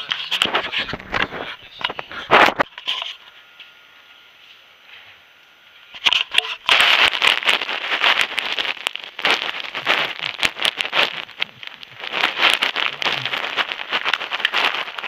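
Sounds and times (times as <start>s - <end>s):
microphone handling noise: 0.0s - 3.3s, 5.9s - 15.0s.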